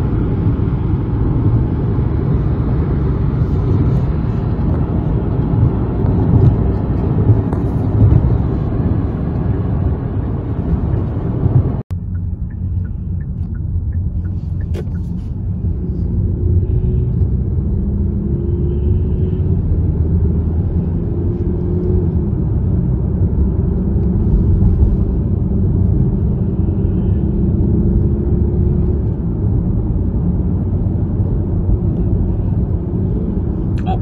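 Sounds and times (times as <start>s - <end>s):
car interior road rumble: 0.0s - 34.0s.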